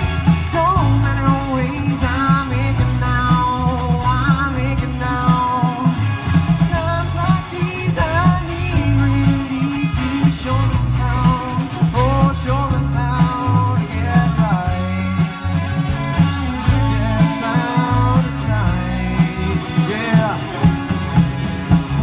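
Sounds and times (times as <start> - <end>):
lead voice singing: 0.0 - 22.0
live rock band playing: 0.0 - 22.0
steady drum beat: 0.0 - 22.0.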